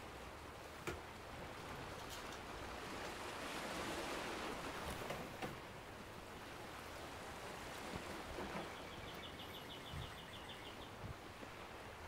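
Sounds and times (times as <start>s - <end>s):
ocean surf: 0.0s - 12.0s.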